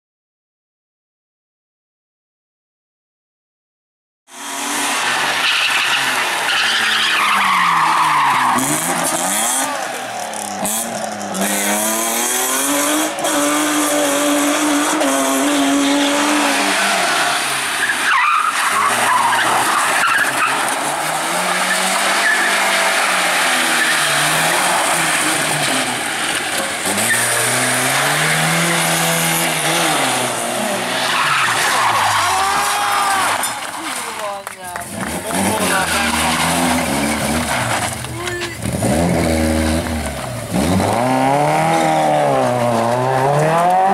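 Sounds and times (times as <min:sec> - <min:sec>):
rally car engines revving: 0:04.3 - 0:43.9
tyres skidding and squealing: 0:04.3 - 0:43.9.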